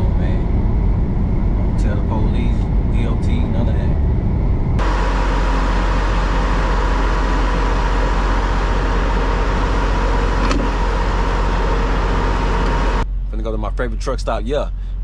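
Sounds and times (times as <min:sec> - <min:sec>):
road and wind noise: 0:00.0 - 0:13.3
thin steady whine: 0:00.0 - 0:14.8
truck engine drone: 0:00.0 - 0:15.0.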